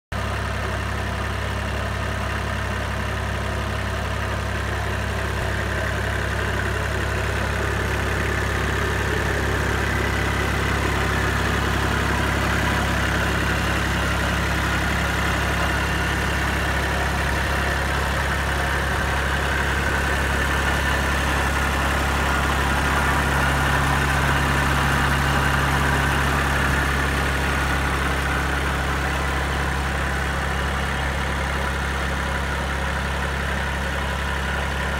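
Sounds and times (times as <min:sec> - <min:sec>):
diesel tractor engine idling: 0:00.1 - 0:34.9.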